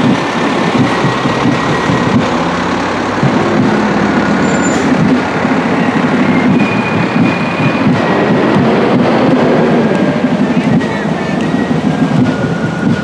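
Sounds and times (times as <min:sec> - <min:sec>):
fire truck engine rumbling: 0:00.0 - 0:13.0.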